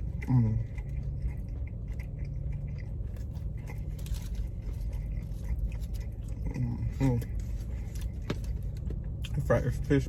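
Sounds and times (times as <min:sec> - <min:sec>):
chewing and crunching: 0:00.0 - 0:10.0
steady low hum: 0:00.0 - 0:10.0.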